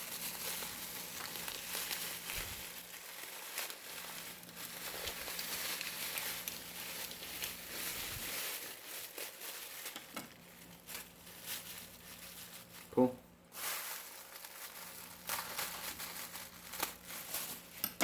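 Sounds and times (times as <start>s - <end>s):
plastic packaging crinkling and tearing: 0.0s - 18.0s.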